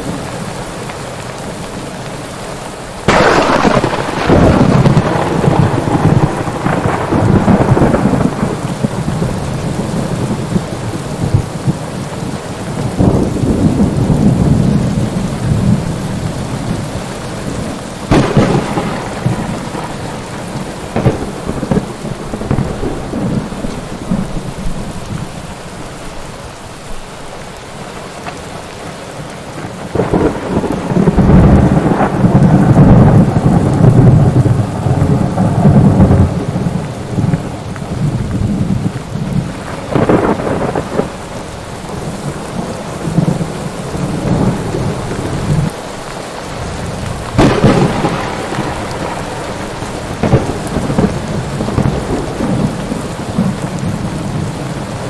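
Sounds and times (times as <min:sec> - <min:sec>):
steady rain: 0:00.0 - 0:55.0
thunder cracks and rumbles: 0:03.0 - 0:25.4, 0:29.6 - 0:45.8, 0:46.4 - 0:55.0.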